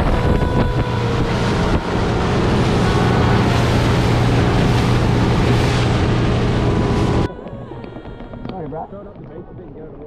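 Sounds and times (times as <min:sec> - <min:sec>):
water rushing past hull: 0:00.0 - 0:08.5
outboard motor running: 0:00.0 - 0:09.5.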